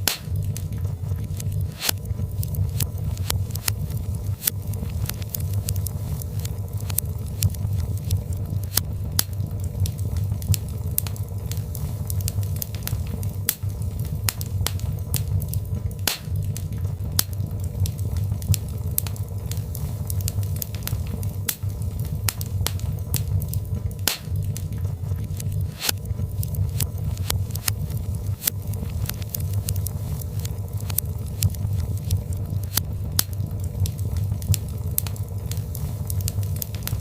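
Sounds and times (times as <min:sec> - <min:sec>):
logs crackling in fireplace: 0:00.0 - 0:37.0
low rumble of flames: 0:00.0 - 0:37.0
sharp pops from fire: 0:00.0 - 0:37.0.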